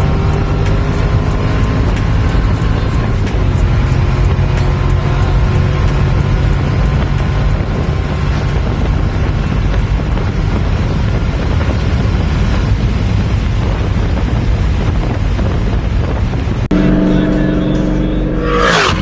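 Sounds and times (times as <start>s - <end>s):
car engine drone: 0.0s - 19.0s
road noise: 0.0s - 19.0s
wind on microphone: 0.0s - 19.0s.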